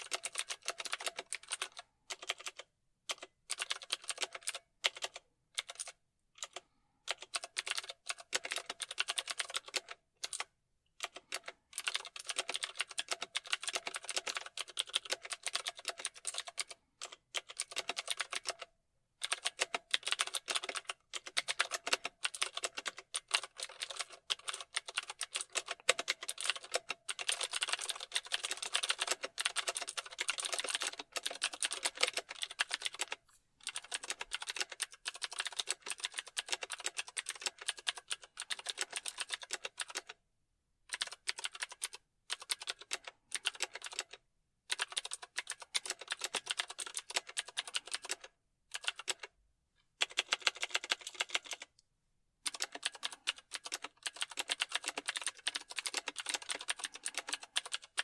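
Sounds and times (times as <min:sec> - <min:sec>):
fast typing on keyboard: 0:00.0 - 0:40.2, 0:40.9 - 0:49.4, 0:50.0 - 0:51.7, 0:52.4 - 0:58.0.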